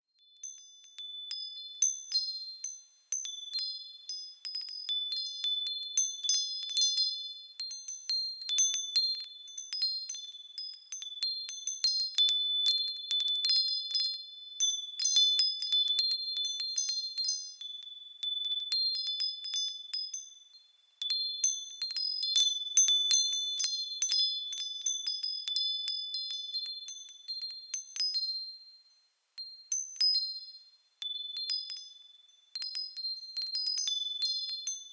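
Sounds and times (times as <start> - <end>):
wind chimes ringing: 0.2 - 34.9.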